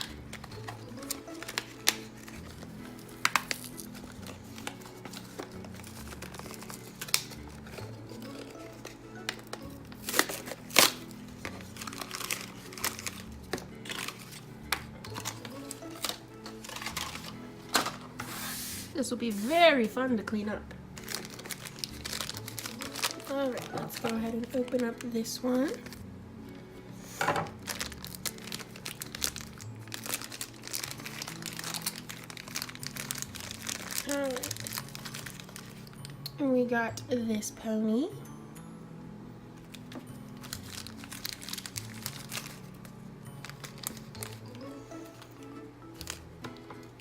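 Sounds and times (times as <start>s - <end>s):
plastic packaging crinkling: 0.0s - 18.1s, 21.0s - 26.0s, 27.5s - 36.2s, 39.6s - 46.9s
faint background music: 0.0s - 47.0s.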